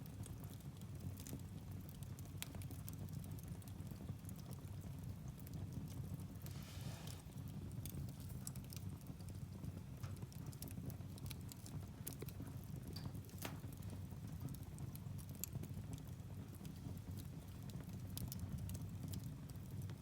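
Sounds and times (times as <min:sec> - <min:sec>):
fire rumbling: 0:00.0 - 0:20.0
logs crackling and popping: 0:00.2 - 0:20.0.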